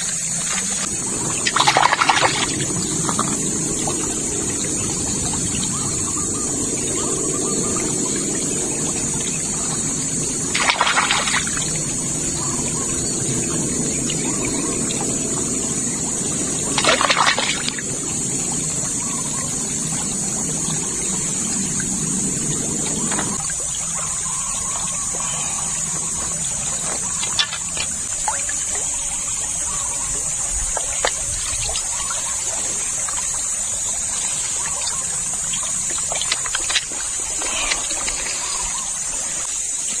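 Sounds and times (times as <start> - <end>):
stream running over rocks: 0.0 - 40.0.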